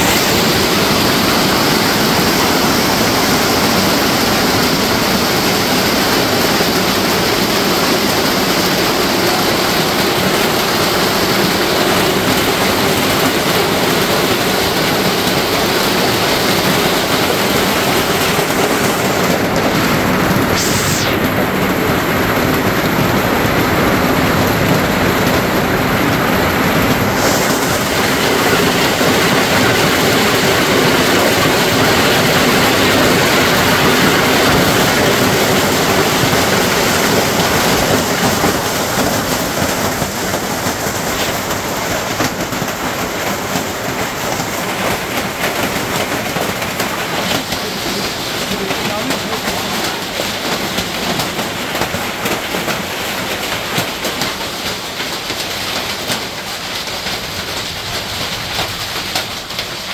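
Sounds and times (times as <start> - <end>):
hailstones pelting the ground: 0.0 - 59.9.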